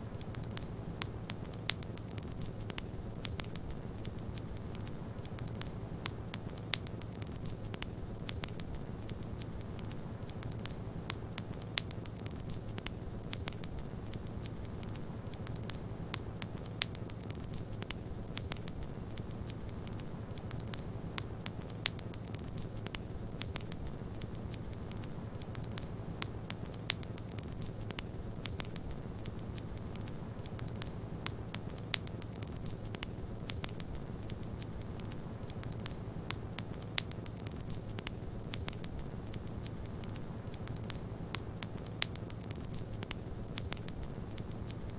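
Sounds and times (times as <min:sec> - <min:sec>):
fireplace fire crackling: 0:00.0 - 0:44.9.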